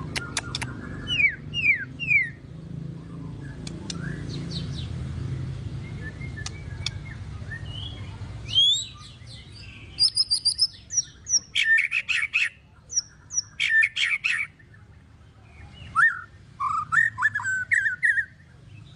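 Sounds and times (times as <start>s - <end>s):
songbird singing varied phrases: 0.0s - 18.9s.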